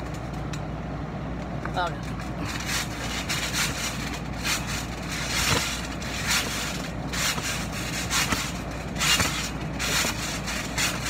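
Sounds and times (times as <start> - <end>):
trampoline bouncing rubbing rush: 2.1 - 11.0.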